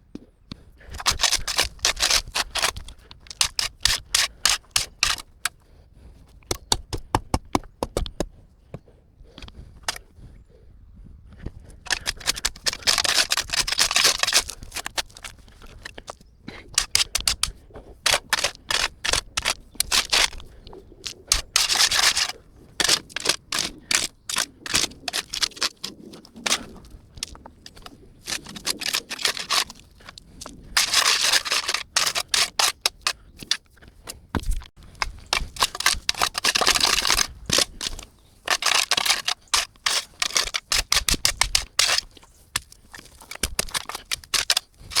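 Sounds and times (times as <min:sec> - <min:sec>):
shovel digging into dirt: 0:00.9 - 0:05.6, 0:06.3 - 0:08.3, 0:11.9 - 0:45.0.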